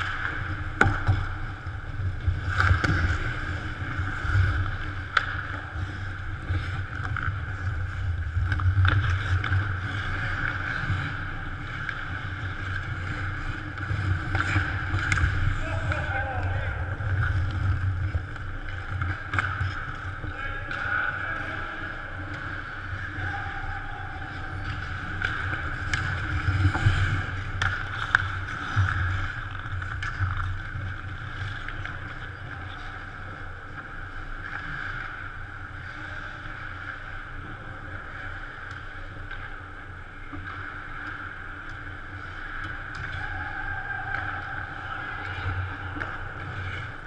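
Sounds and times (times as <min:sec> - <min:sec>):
hockey sticks and puck clacking: 0:00.0 - 0:47.0.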